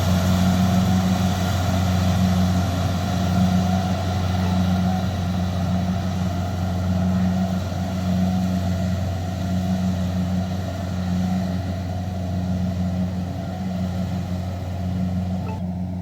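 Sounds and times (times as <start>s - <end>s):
combine harvester diesel engine: 0.0s - 16.0s.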